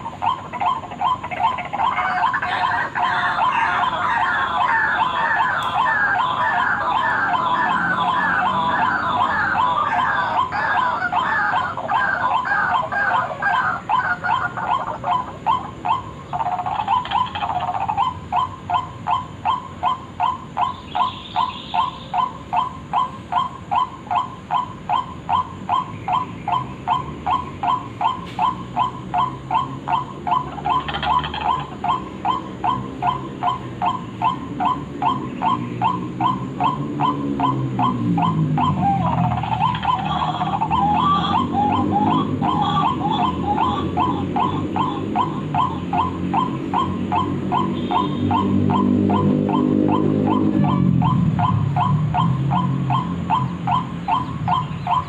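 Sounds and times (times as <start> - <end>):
waterhen calling: 0.0 - 55.0.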